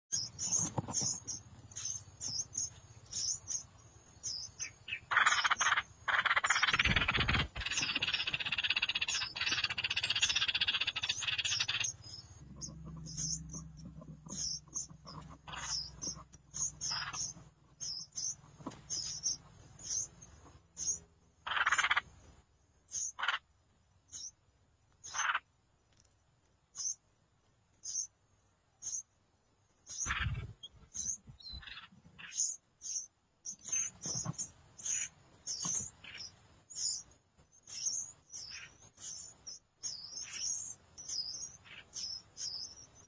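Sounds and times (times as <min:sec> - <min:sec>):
nestlings begging cheeps: 0:00.1 - 0:22.2, 0:22.9 - 0:23.5, 0:24.1 - 0:24.4, 0:25.0 - 0:25.5, 0:26.8 - 0:27.0, 0:27.8 - 0:28.2, 0:28.8 - 0:29.1, 0:29.8 - 0:43.0.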